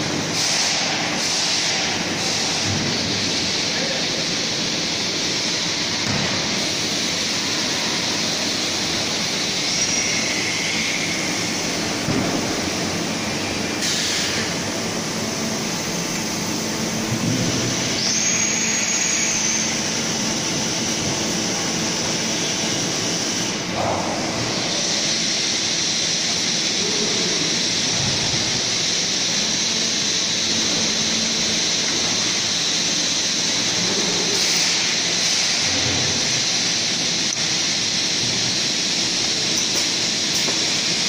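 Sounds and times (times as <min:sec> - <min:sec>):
factory machinery hiss and hum: 0:00.0 - 0:41.0.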